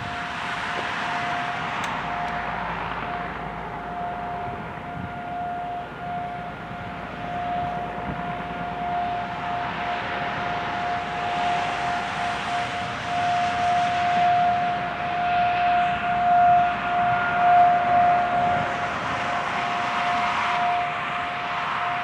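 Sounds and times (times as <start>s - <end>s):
steady warning siren tone: 0.0s - 22.0s.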